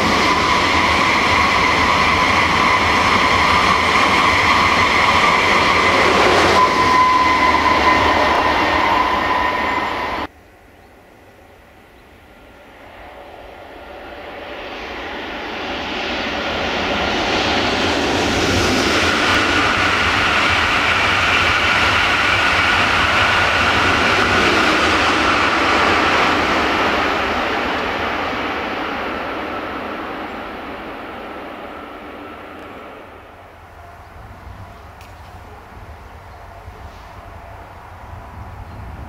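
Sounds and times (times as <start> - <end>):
train passing by: 0.0 - 39.0.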